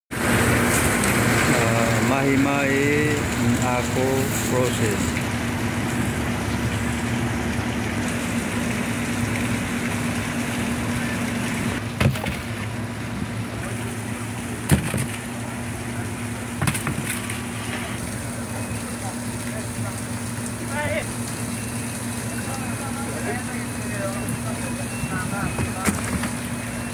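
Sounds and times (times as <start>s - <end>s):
machinery humming: 0.2s - 26.9s.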